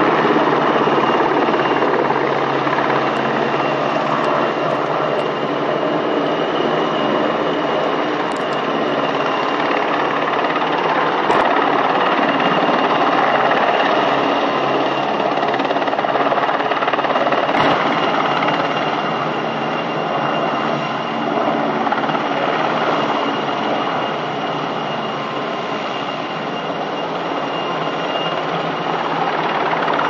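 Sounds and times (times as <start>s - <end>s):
helicopter flying low: 0.0s - 30.0s.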